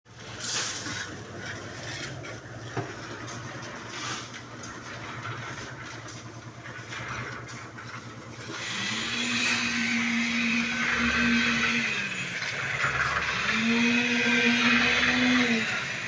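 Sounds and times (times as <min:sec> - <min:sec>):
machine engine running: 0:00.1 - 0:16.0.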